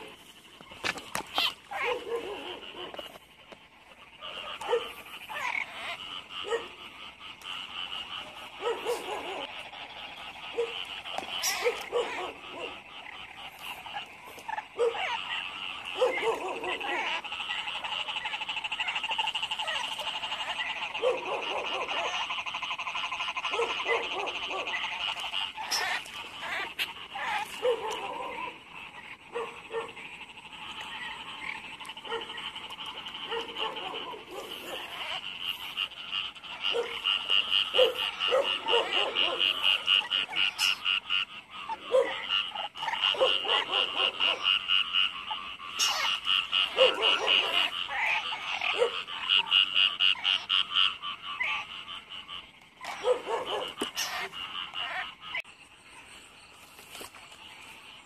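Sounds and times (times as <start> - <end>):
low frog croaks: 0.0 - 56.3
frogs trilling: 0.0 - 58.0.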